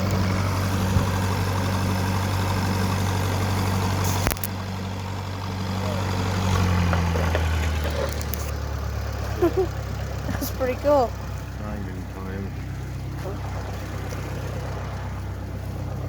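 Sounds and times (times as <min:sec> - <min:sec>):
welder engine running: 0:00.0 - 0:16.0.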